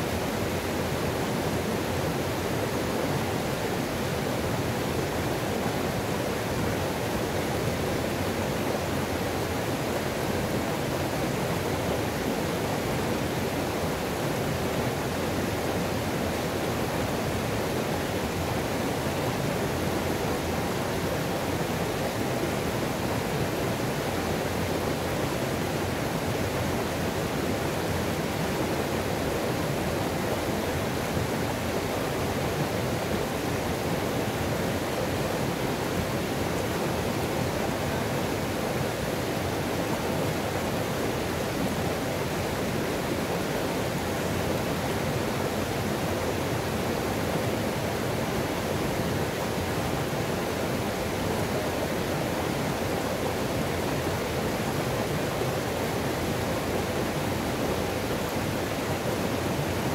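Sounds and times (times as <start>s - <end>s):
waterfall roar: 0.0s - 59.9s.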